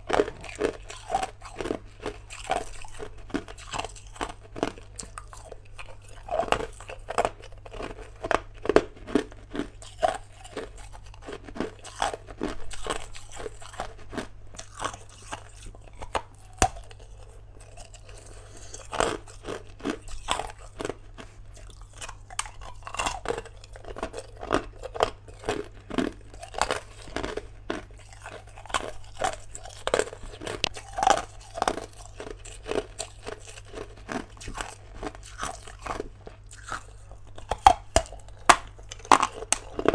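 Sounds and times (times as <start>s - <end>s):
ice being chewed: 0.0s - 39.9s
low steady hum: 0.0s - 39.9s.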